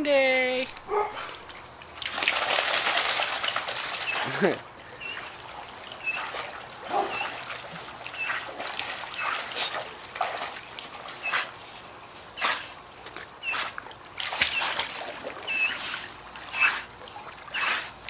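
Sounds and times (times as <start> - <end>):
dog splashing water: 1.9 - 18.0.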